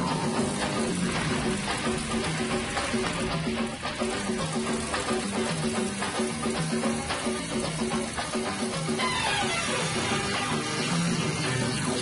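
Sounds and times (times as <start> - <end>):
instrumental music with repeating notes: 0.0 - 12.0.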